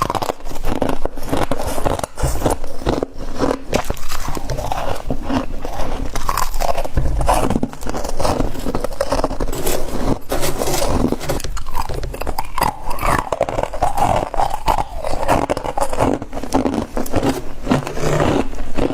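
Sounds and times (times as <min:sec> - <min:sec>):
person chewing crunchy frost: 0:00.0 - 0:18.9.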